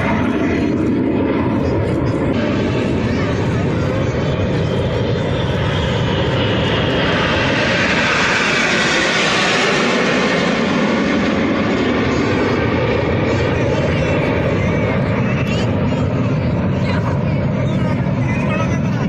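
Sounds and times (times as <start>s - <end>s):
plane flying past: 0.0s - 19.0s.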